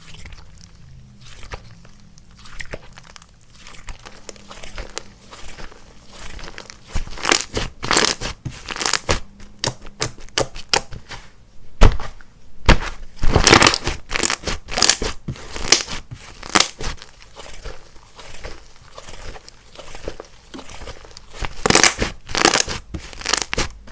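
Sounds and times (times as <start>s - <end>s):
hands squishing slime: 0.0s - 23.9s.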